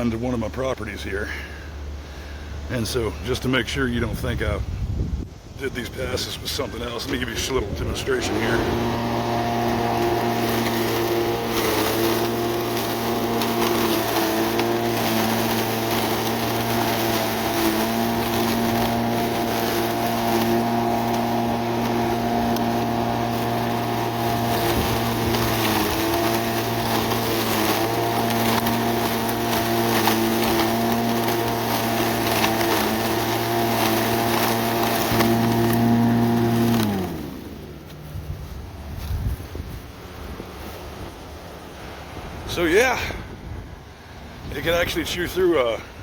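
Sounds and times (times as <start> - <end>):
electric lawn mower cutting grass: 5.9 - 43.3.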